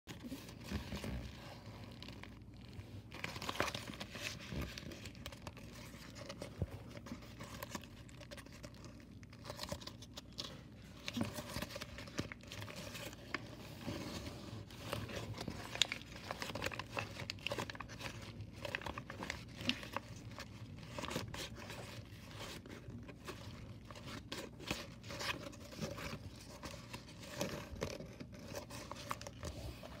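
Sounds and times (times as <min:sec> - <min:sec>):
folded paper crinkling: 0:00.1 - 0:30.0.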